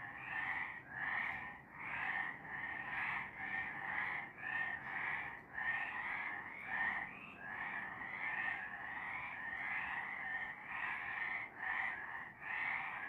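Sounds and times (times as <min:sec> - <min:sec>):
frogs croaking in chorus: 0:00.0 - 0:13.0.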